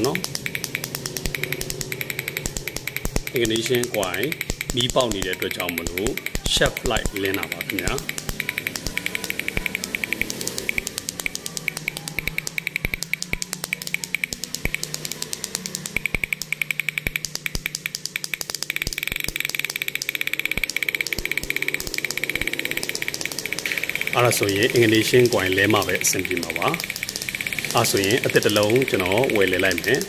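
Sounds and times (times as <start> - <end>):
car engine ticking: 0.0 - 30.0
low hum: 0.0 - 30.0.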